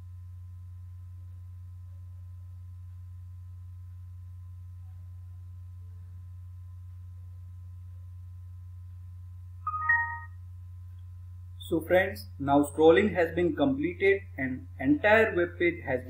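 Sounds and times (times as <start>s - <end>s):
faint high whine: 0.0s - 16.0s
steady low hum: 0.0s - 16.0s.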